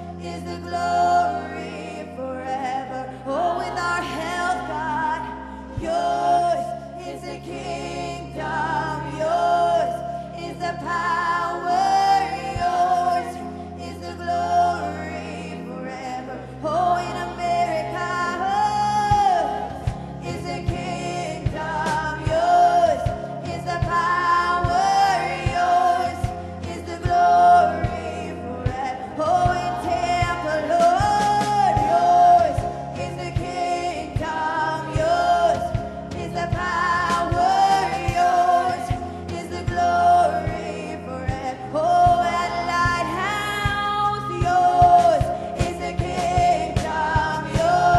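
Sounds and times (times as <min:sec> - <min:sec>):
keyboard: 0:00.0 - 0:47.9
women singing into microphones: 0:00.0 - 0:47.9.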